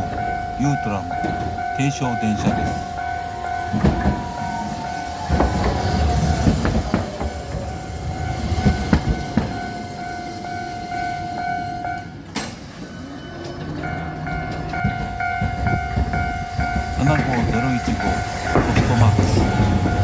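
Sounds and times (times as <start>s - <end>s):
level crossing bell ringing: 0.0s - 20.0s
tram rumble: 0.0s - 20.0s
wheel clacks on rails: 0.0s - 20.0s.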